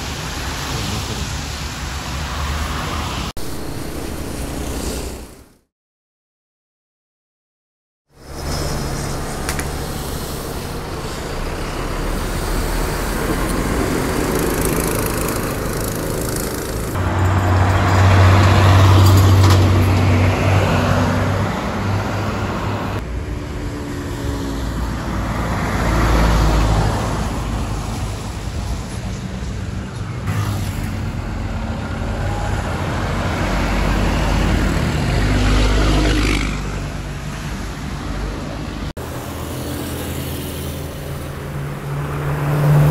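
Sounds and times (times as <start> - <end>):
buses driving past: 0.0 - 5.6, 8.1 - 42.9
road traffic: 0.0 - 5.7, 8.1 - 42.9.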